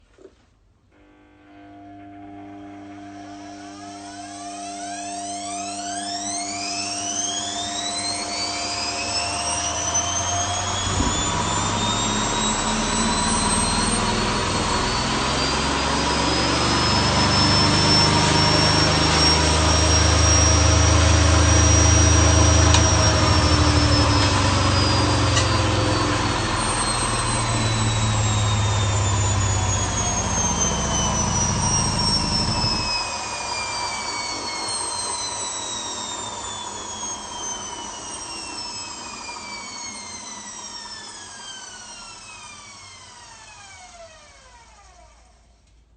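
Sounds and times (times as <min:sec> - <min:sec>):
washing machine motor whine: 0:01.0 - 0:45.6.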